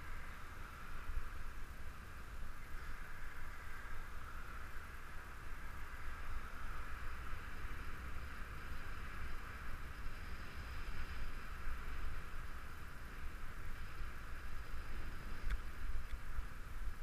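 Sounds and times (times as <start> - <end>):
road and riding hiss: 0.0 - 17.0
wind rumbling on microphone: 0.0 - 17.0.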